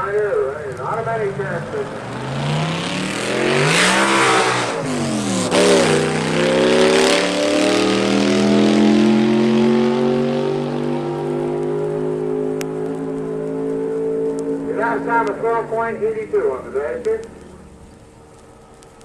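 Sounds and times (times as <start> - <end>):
racing car engine revving: 0.0 - 18.7.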